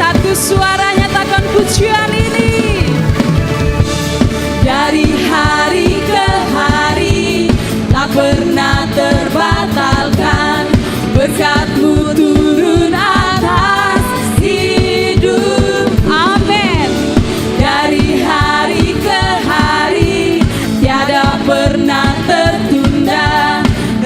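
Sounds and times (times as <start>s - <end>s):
steady drum beat: 0.0s - 24.0s
worship band playing: 0.0s - 24.0s
voices singing: 4.6s - 24.0s.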